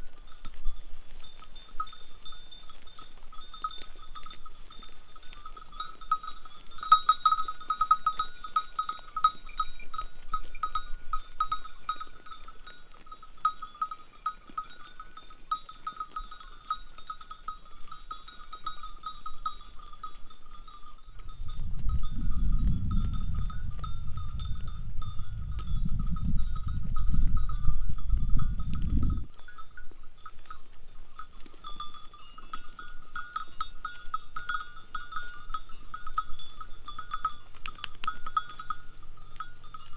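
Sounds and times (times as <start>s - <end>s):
sheep and goat bells jingling: 0.0s - 39.9s.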